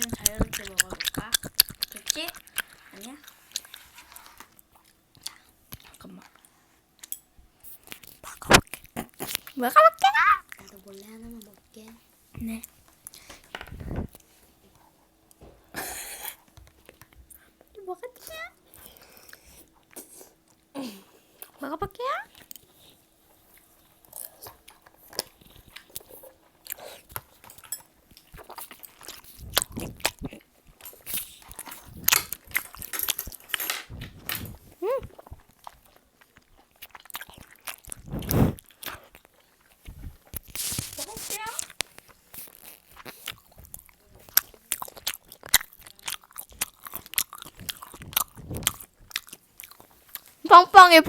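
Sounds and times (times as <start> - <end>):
person chewing food: 0.0 - 21.6, 22.3 - 50.4.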